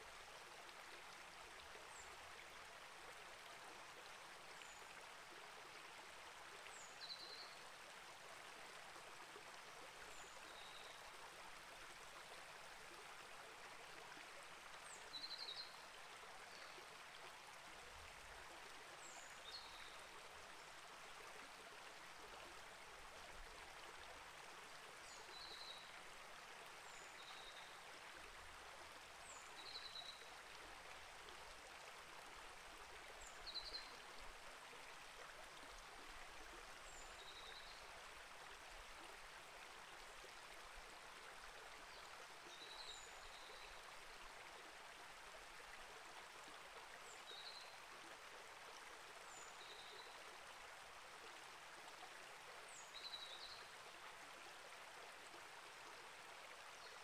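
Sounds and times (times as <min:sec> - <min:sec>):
creek flowing: 0:00.0 - 0:57.0.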